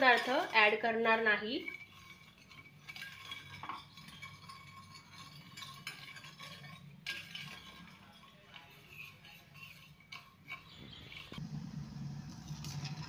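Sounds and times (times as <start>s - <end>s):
spoon stirring in a pan: 0.0s - 11.4s.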